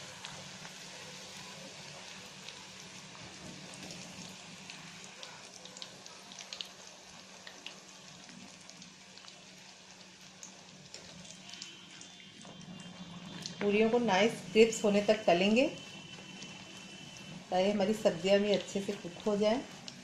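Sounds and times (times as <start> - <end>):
deep-frying sizzle with crackles: 0.0 - 20.0.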